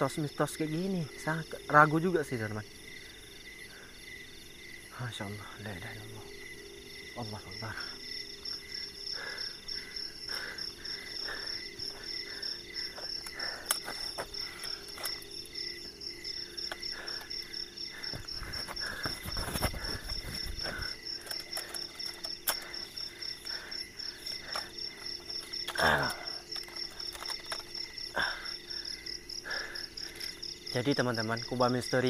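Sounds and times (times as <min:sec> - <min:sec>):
crickets chirping: 0:00.0 - 0:32.0
night insects calling: 0:00.0 - 0:32.0.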